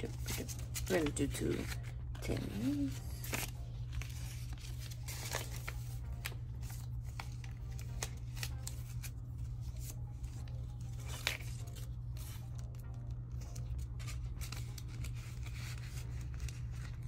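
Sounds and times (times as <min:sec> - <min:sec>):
banknotes rustling: 0:00.0 - 0:17.0.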